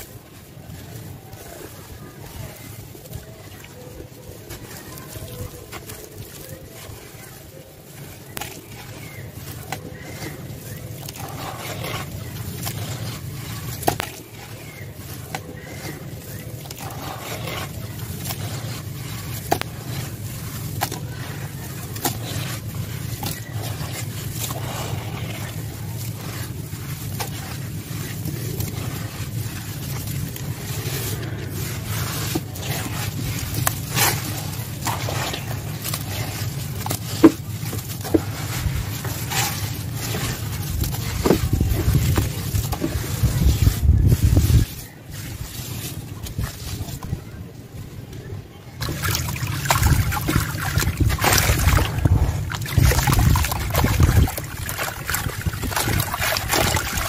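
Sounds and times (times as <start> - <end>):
hands scraping wet sand: 0.0 - 57.0
steady low rumble: 6.6 - 57.0.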